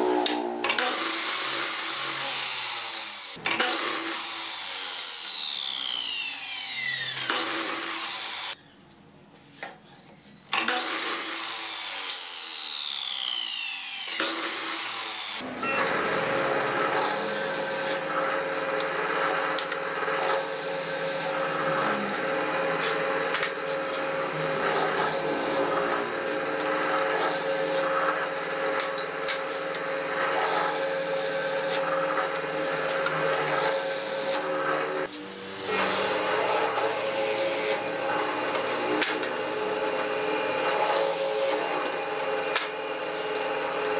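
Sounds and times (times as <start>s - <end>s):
miter saw blade whine: 0.0s - 8.6s, 10.7s - 43.9s
drill press boring into wood: 0.6s - 8.6s, 10.5s - 43.9s.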